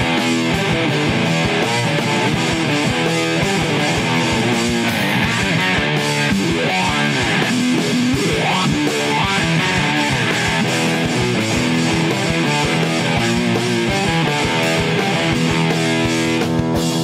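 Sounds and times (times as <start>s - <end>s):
rising guitar slide: 0.0s - 17.0s
rock band playing: 0.0s - 17.0s.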